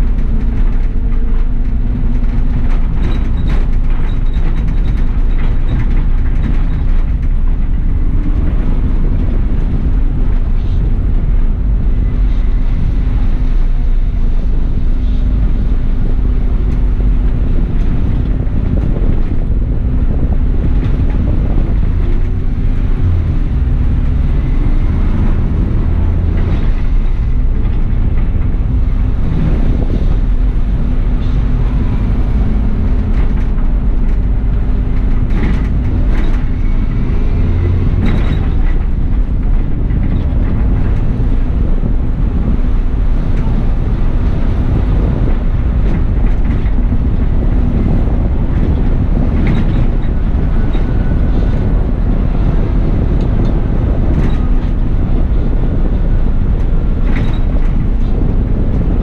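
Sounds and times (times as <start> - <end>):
bus engine drone: 0.0 - 59.0
rattles and clicks: 0.0 - 59.0
road rumble: 0.0 - 59.0.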